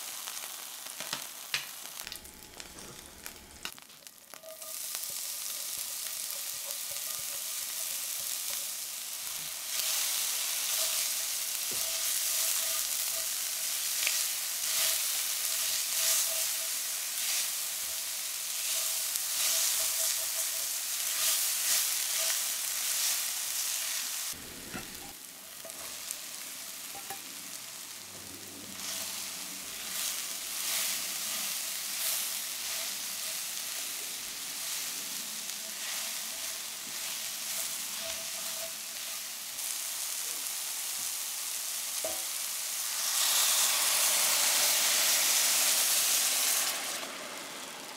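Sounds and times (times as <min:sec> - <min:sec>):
mushrooms sauteing: 0:00.0 - 0:47.9
shallot sizzling in oil: 0:00.0 - 0:47.9.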